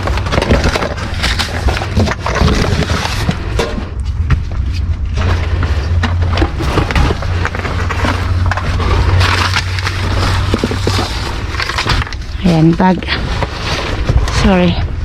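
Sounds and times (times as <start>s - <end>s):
steady low hum: 0.0s - 15.0s
trash rustling and clattering: 0.0s - 15.0s.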